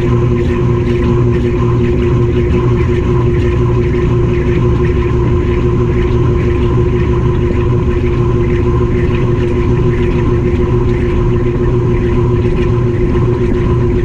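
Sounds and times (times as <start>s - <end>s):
washing machine motor hum: 0.0s - 14.0s
water swishing in washer: 0.0s - 14.0s.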